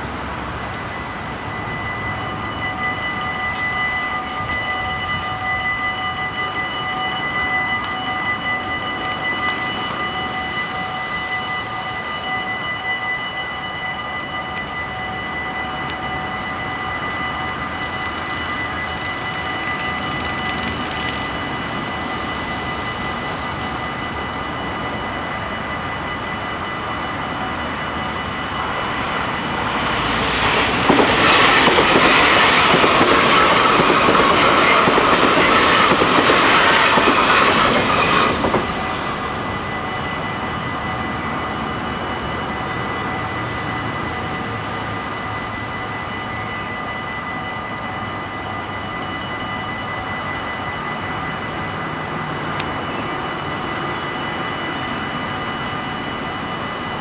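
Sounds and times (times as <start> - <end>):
crossing warning bells ringing: 0.0 - 57.0
electric train passing: 0.0 - 57.0.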